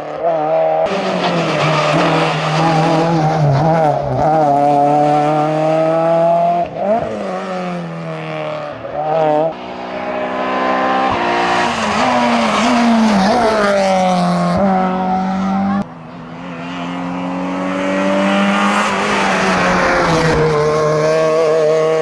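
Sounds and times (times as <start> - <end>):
racing car engine at full throttle: 0.0 - 22.0
car engine accelerating: 0.2 - 22.0.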